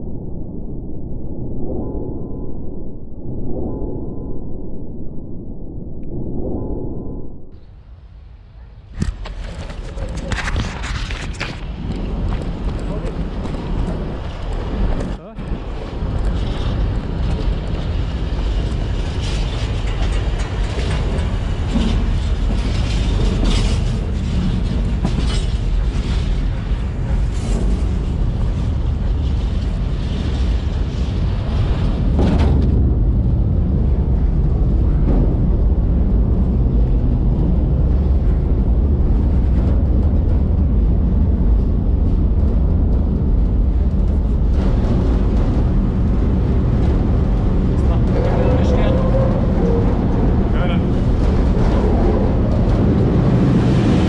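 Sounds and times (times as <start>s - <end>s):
train rumbling: 7.6s - 54.0s.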